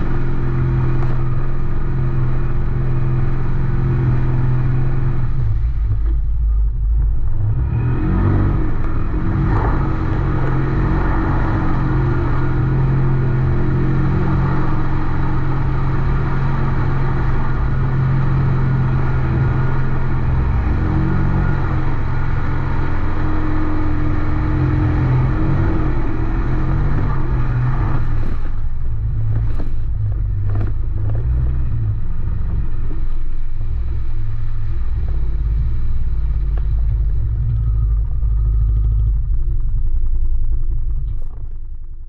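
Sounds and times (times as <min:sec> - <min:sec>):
engine low rumble: 0:00.0 - 0:42.0.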